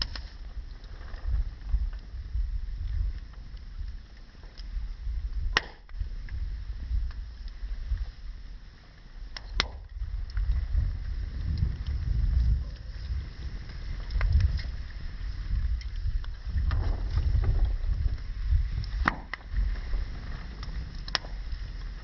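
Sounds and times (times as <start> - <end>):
burning wood popping: 0.0 - 22.0
wood fire low rumble: 0.0 - 22.0.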